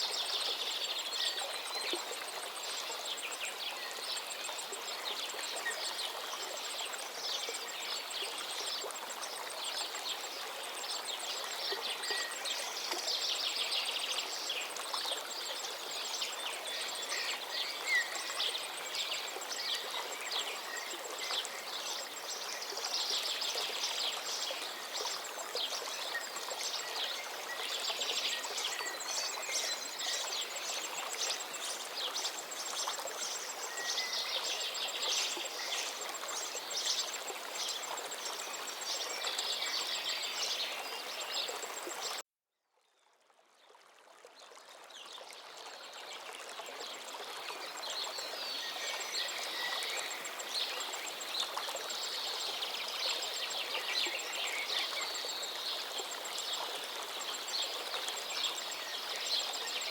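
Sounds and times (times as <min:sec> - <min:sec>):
river flowing: 0:00.0 - 0:42.2, 0:43.7 - 0:59.9.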